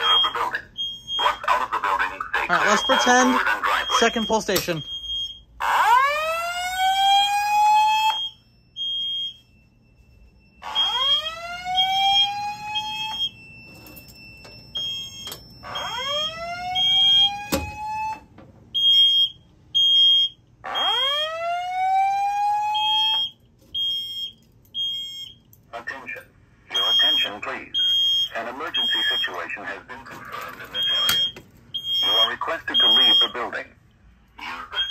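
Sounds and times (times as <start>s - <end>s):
fire alarm whoop tone: 0.0s - 1.5s, 2.5s - 25.4s, 26.7s - 29.4s, 30.8s - 33.4s, 34.7s - 34.9s.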